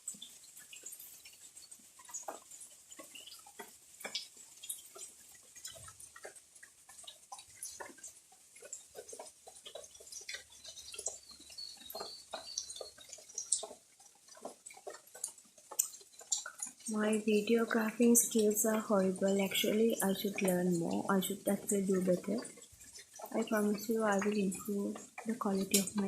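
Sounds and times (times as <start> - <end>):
rainwater dripping: 0.0 - 26.0.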